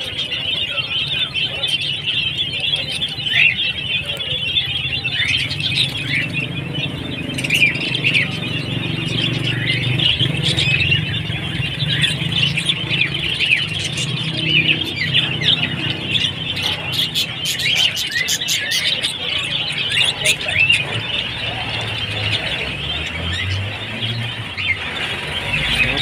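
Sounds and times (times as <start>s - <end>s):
caged birds chirping: 0.0s - 26.0s.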